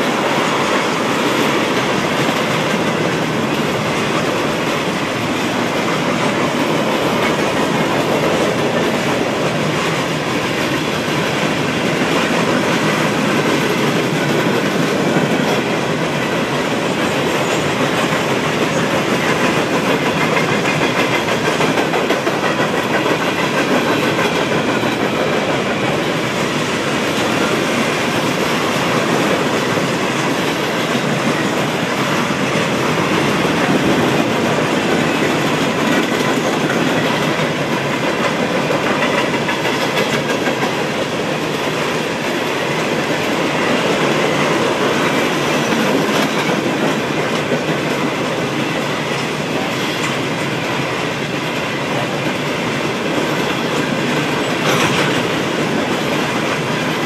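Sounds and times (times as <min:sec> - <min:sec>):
freight train wheels clacking: 0:00.0 - 0:57.0.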